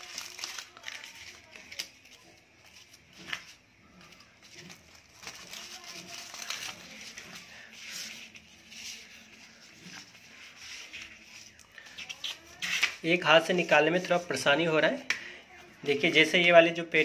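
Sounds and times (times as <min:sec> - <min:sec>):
paper rustling and crinkling: 0:00.0 - 0:14.4.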